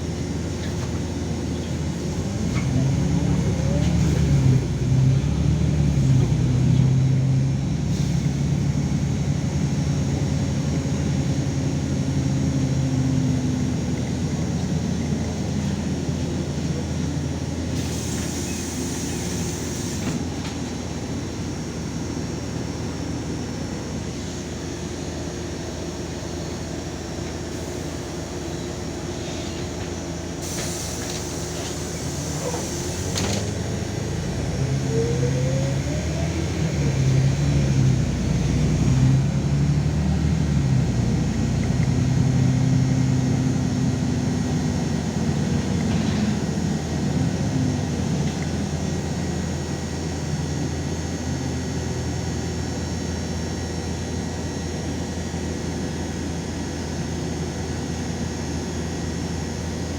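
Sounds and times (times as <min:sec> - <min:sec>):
bus engine running: 0:00.0 - 0:59.9
drivetrain whine: 0:00.0 - 0:59.9.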